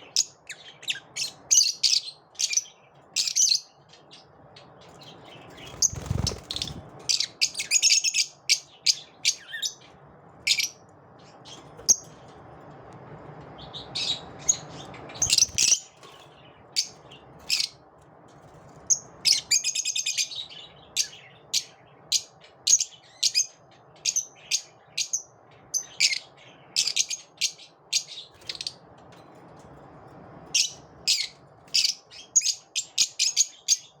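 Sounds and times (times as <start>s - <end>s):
lovebirds chirping: 0.0s - 12.5s, 13.5s - 18.0s, 18.8s - 29.6s, 30.4s - 34.0s.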